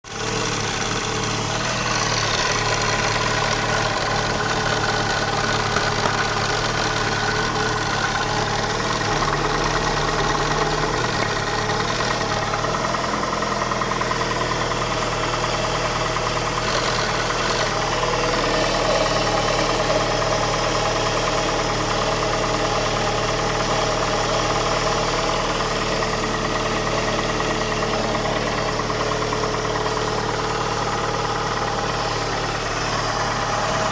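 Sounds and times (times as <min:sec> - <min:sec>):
strange engine noise: 0:00.0 - 0:33.9
car engine running: 0:00.1 - 0:33.9.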